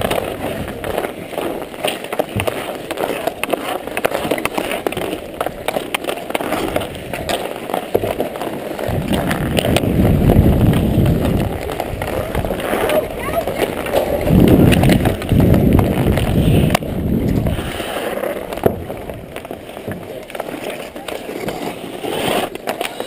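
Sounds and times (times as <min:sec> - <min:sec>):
hockey stick tapping puck: 0:00.0 - 0:23.0
skate blades scraping on ice: 0:00.0 - 0:23.0.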